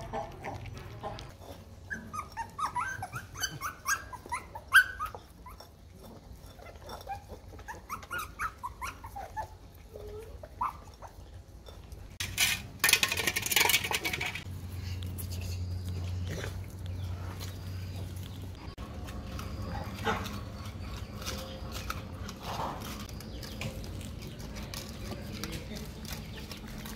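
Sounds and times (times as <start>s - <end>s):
puppies whining and yipping: 0.0s - 12.2s, 14.2s - 25.1s.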